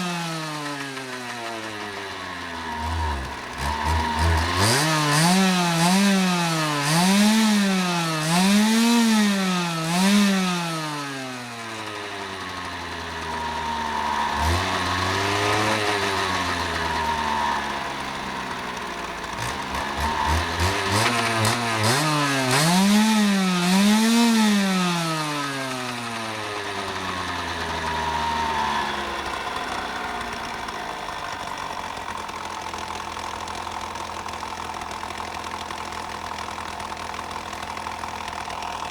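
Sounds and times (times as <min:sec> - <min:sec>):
dirt bike engine idling: 0:00.0 - 0:38.9
dirt bike engine revving: 0:00.0 - 0:38.9.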